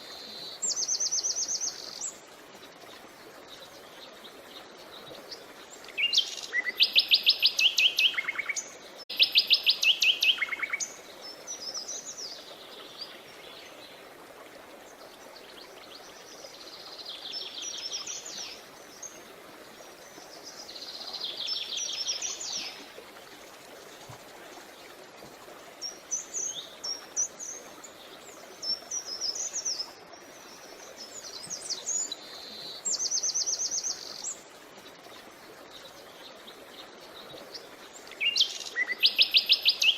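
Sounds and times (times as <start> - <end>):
faint creek rushing: 0.0 - 39.9.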